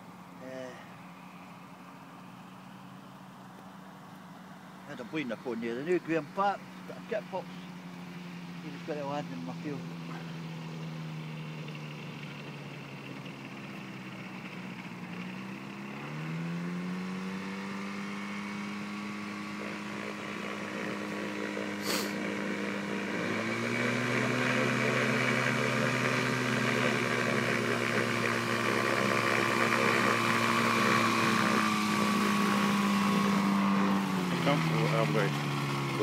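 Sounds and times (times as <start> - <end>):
two-stroke aircraft engine and propeller: 0.0 - 36.0.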